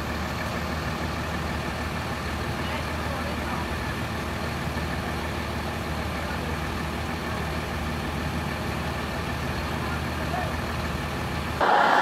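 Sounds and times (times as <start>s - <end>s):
diesel bus engines idling: 0.0s - 12.0s.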